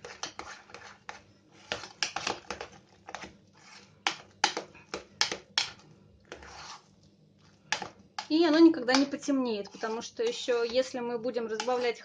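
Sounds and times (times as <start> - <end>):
spoon stirring mashed potatoes: 0.0 - 12.0.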